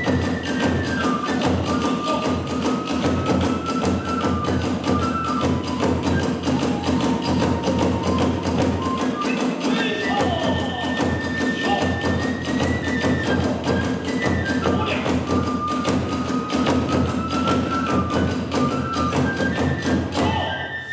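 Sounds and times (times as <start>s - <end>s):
drums beating: 0.0s - 20.5s
bamboo flute long notes: 0.0s - 20.9s.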